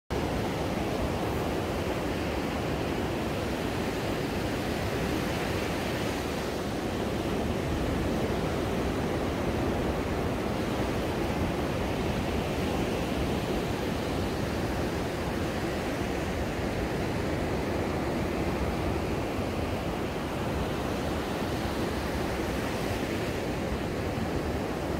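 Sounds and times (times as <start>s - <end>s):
sea waves breaking on beach: 0.2s - 24.9s.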